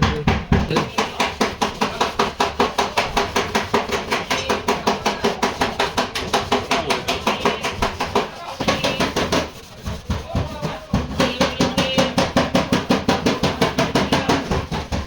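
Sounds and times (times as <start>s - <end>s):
hammer strikes on sheet metal: 0.0s - 15.0s.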